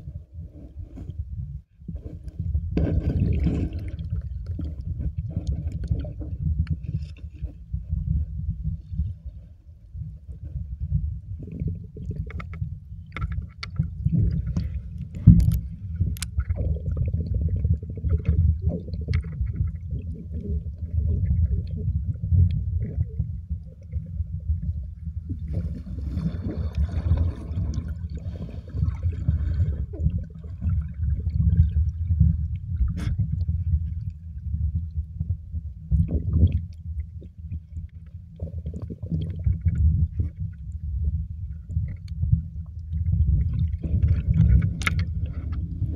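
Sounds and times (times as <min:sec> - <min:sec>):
underwater water rumble: 0:00.0 - 0:45.9.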